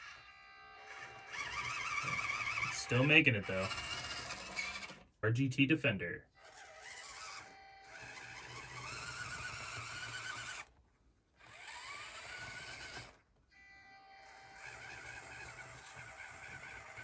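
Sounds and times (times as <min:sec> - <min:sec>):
electric motor whining: 0:00.0 - 0:05.1, 0:06.3 - 0:10.8, 0:11.4 - 0:17.0.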